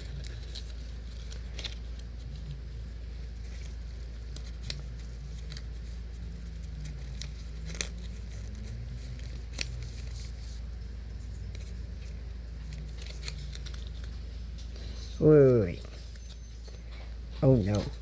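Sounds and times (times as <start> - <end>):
paper and tape handling: 0.0 - 16.8
steady low hum: 0.0 - 18.0.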